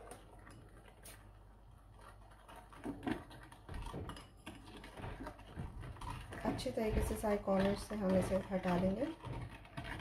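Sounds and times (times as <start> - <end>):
whisk tapping and scraping bowl: 0.0 - 10.0.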